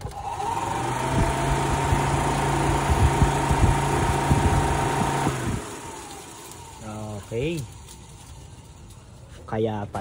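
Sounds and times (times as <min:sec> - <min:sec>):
electric cooling fan whirring: 0:00.0 - 0:09.2.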